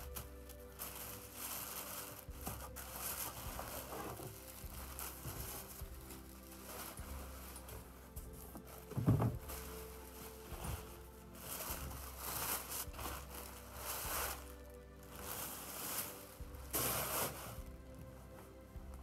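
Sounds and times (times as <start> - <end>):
tissue paper crinkling: 0.0 - 18.8
background music: 0.0 - 19.0.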